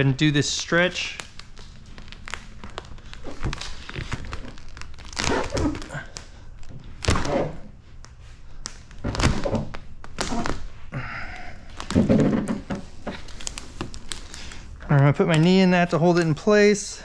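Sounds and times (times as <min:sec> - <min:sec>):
plastic film crinkling: 0:00.0 - 0:16.8.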